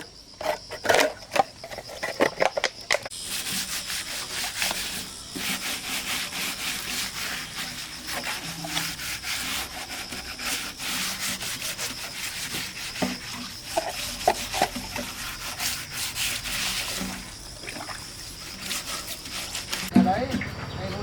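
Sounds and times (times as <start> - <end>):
scraping strokes: 0.4 - 21.0.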